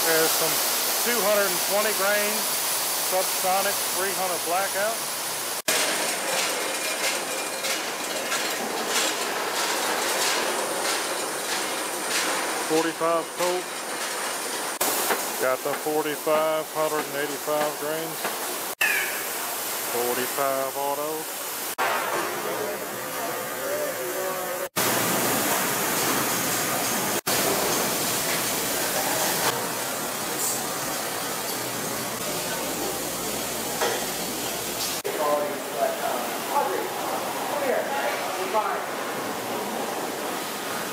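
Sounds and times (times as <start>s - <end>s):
factory noise roar: 0.0s - 40.9s.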